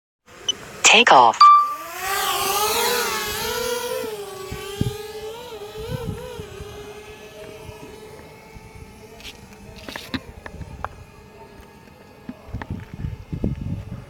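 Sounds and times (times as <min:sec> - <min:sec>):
drone propellers whining: 0:01.6 - 0:14.0.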